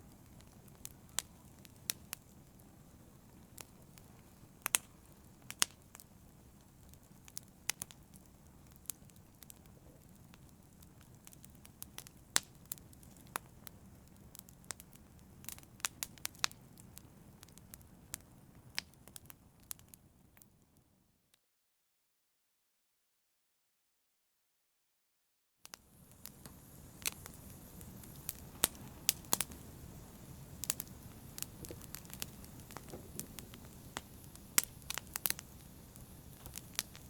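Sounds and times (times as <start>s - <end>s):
fire crackling: 0.0s - 20.5s, 25.7s - 37.0s.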